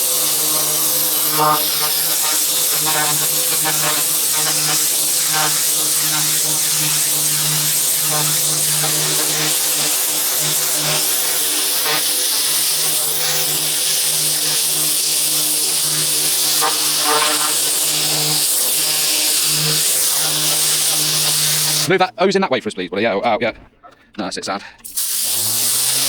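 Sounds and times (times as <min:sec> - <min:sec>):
high-pressure water jet spraying: 0:00.0 - 0:21.9, 0:24.8 - 0:26.0
pressure washer motor hum: 0:00.0 - 0:21.9, 0:24.8 - 0:26.0.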